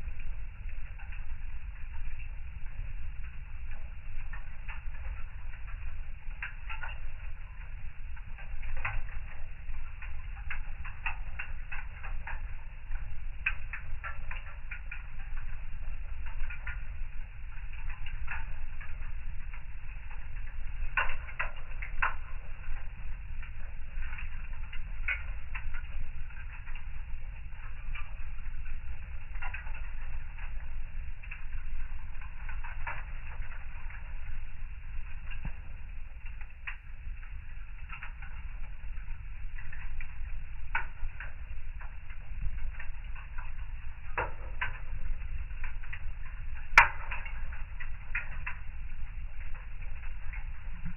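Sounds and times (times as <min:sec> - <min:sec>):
low steady rumble: 0:00.0 - 0:50.9
wood fire crackling and popping: 0:00.0 - 0:50.9.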